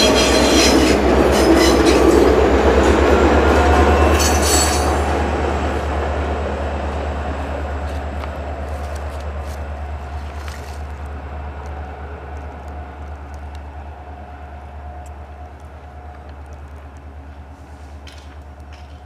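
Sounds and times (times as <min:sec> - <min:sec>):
diesel locomotives rumbling: 0:00.0 - 0:19.0.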